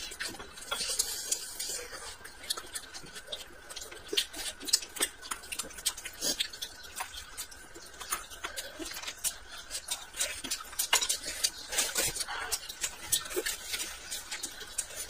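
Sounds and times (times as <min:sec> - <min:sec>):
person chewing and smacking: 0:00.0 - 0:15.0.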